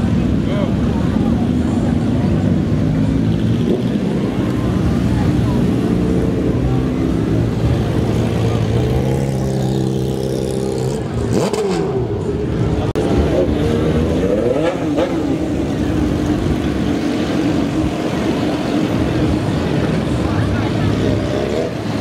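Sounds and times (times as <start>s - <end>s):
motorcycle engines running: 0.0s - 22.0s.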